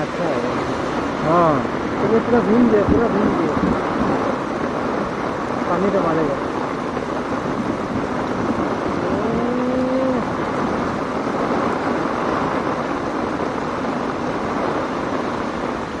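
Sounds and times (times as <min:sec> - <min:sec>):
car driving through water: 0:00.0 - 0:16.0
heavy rain pouring: 0:00.0 - 0:16.0.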